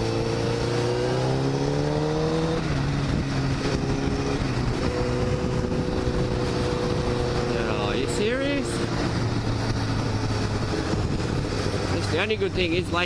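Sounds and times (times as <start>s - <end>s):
motorcycle engine revving: 0.0s - 13.0s
wind rushing over microphone: 0.0s - 13.0s.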